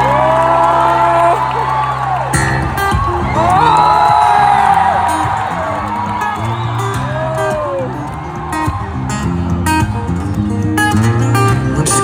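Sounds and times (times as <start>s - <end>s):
crowd whooping and cheering: 0.0s - 12.0s.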